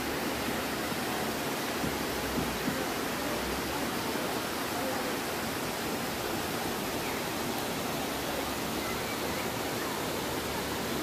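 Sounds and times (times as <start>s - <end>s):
mountain stream rushing over stones: 0.0s - 11.0s.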